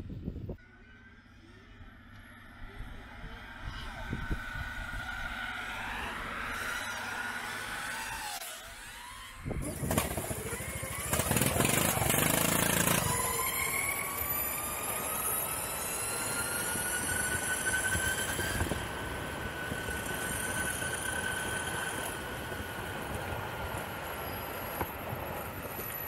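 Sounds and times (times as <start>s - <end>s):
electric motors whining: 0.6s - 26.0s
wheels rolling on asphalt: 3.2s - 26.0s.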